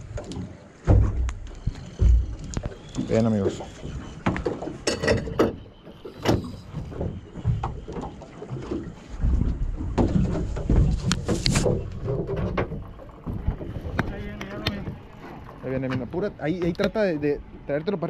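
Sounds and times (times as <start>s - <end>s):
water sloshing against hull: 0.0s - 18.0s.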